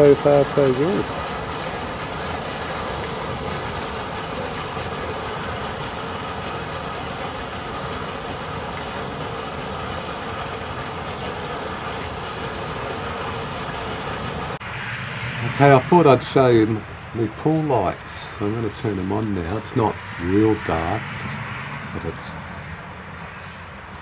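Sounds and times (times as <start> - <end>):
pool pump droning: 0.0 - 24.0
water circulating: 0.0 - 24.0.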